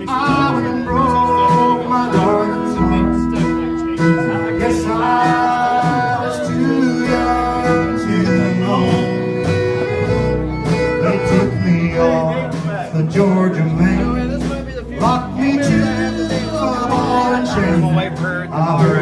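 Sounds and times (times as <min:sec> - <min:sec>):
country band playing instrumental: 0:00.0 - 0:19.0.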